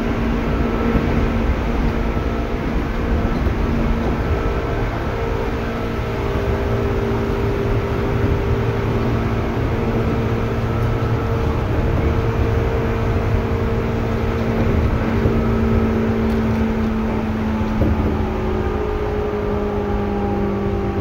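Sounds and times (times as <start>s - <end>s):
electric train wheels rumbling on rail: 0.0s - 21.0s
traction motor hum: 0.0s - 21.0s.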